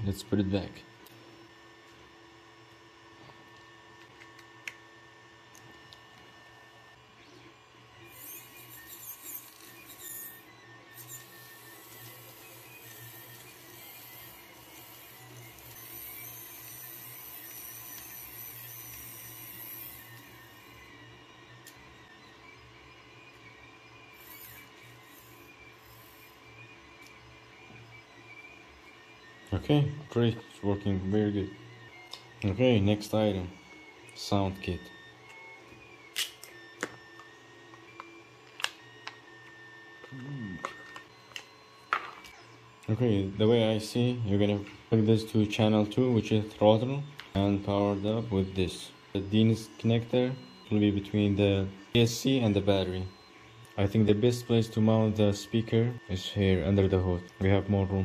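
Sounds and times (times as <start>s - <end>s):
three d printer humming: 0.0s - 58.0s
winch motor whining: 0.0s - 58.0s.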